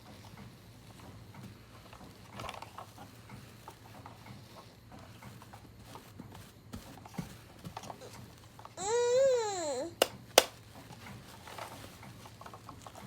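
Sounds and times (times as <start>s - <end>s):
light clicks and taps of toy packaging: 0.1s - 8.8s, 9.9s - 13.0s.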